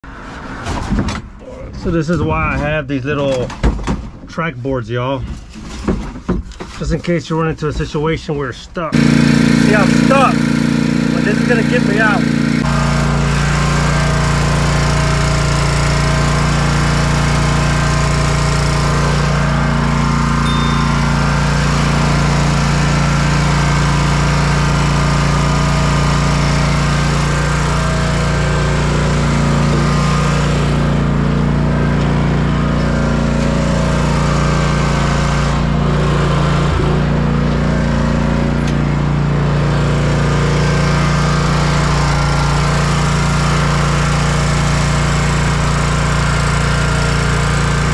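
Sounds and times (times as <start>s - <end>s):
riding mower engine running: 8.9s - 47.9s.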